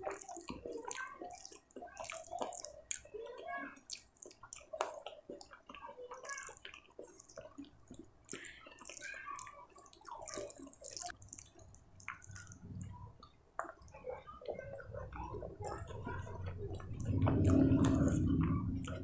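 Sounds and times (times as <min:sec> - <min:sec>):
fingers squishing wet rice: 0:00.0 - 0:19.0.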